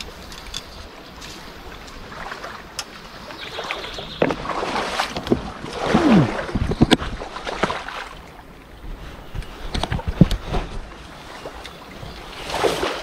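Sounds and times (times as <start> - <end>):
rustling vegetation: 0.0 - 13.0.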